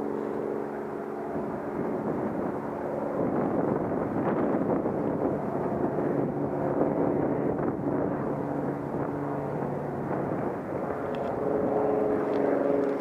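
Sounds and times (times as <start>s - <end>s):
engine drone: 0.0s - 13.0s
wind rumbling on microphone: 0.0s - 13.0s.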